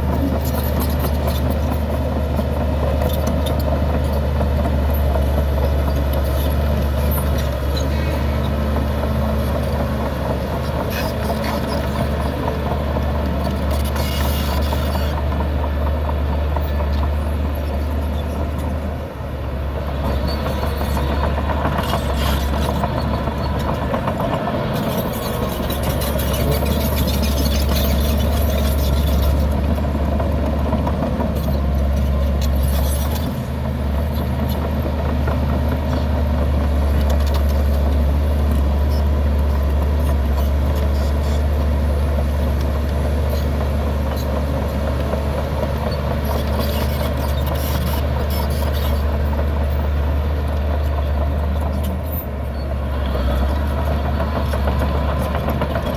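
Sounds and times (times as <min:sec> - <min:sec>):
diesel engine drone: 0:00.0 - 0:55.9.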